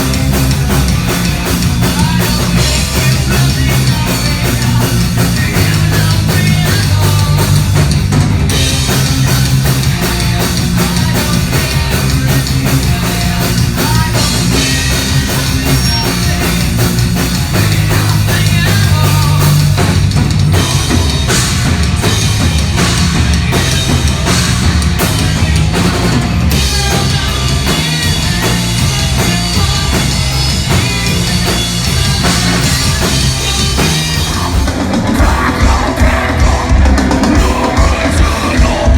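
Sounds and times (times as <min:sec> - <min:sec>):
heavy rock band playing: 0:00.0 - 0:38.9
pounding drums: 0:00.0 - 0:38.9.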